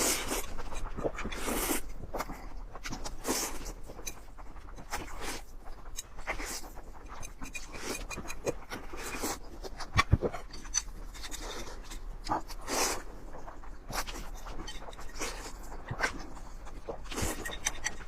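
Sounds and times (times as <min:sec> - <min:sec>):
slurping noodles: 0:00.0 - 0:10.3, 0:11.2 - 0:18.0
wet chewing: 0:00.0 - 0:18.0.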